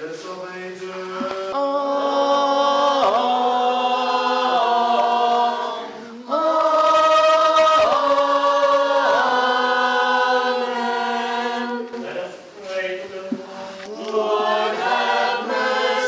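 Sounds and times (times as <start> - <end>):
a cappella choir singing: 0.0 - 16.0.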